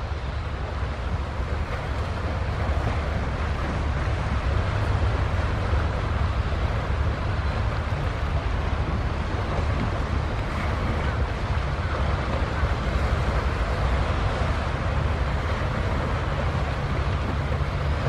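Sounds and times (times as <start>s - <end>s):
waves washing at shore: 0.0s - 18.0s
wind rumbling on microphone: 0.0s - 18.0s.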